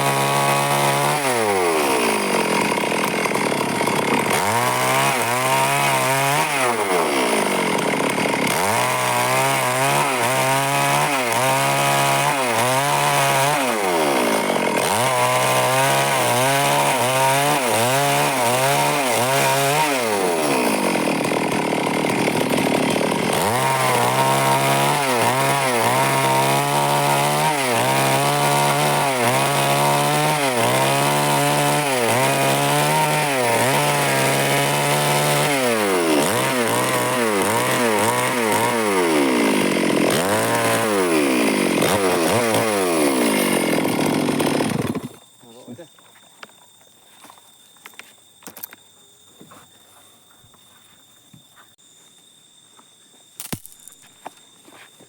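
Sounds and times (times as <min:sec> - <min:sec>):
chainsaw cutting wood: 0:00.0 - 0:45.4, 0:53.4 - 0:54.4.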